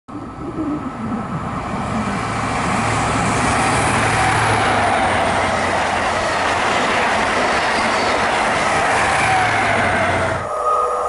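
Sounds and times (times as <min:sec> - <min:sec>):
train passing at speed: 0:00.1 - 0:11.0.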